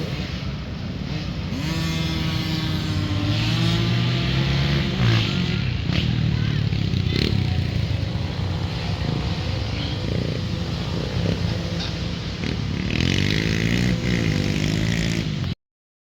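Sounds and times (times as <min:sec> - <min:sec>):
dirt bike engines running: 0:00.0 - 0:15.6
dirt bike revving: 0:00.0 - 0:15.6.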